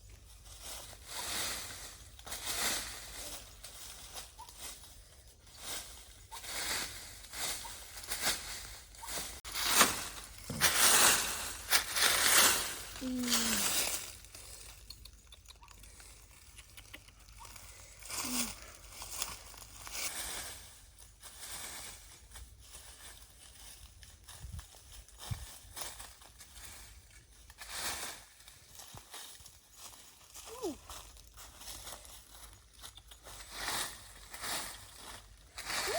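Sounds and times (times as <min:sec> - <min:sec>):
leaves and plant stems rustling: 0:00.0 - 0:35.9.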